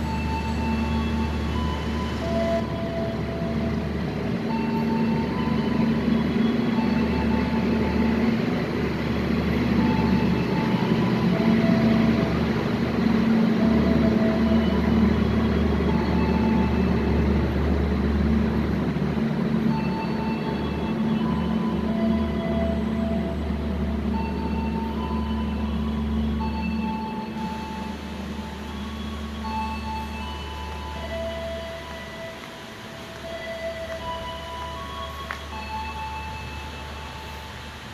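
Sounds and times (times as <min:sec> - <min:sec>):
train rumbling: 0:00.0 - 0:37.9.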